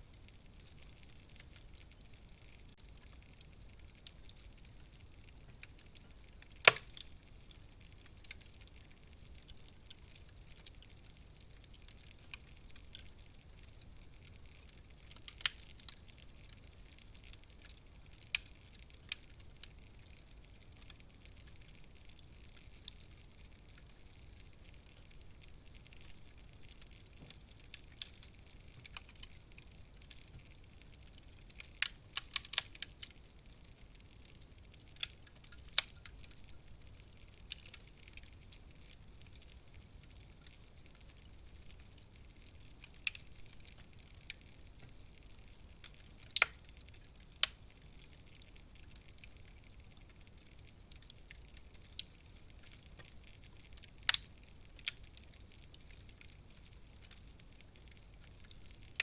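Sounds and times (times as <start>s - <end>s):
faint low hiss: 0.0s - 59.0s
wood fire crackling and popping: 0.0s - 59.0s.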